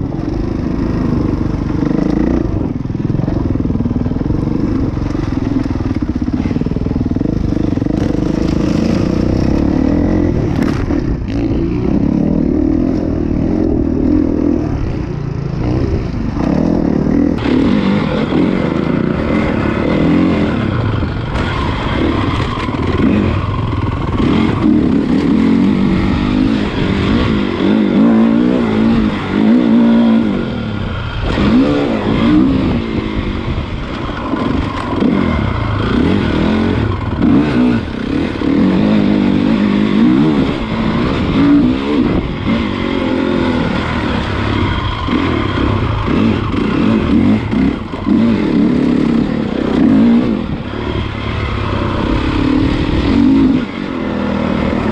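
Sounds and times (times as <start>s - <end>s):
motocross bike engine revving: 0.0s - 54.9s.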